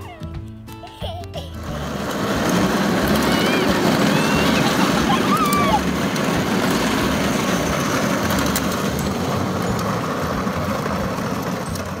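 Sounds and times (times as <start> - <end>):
plastic wheels rolling on asphalt: 0.2 - 12.0.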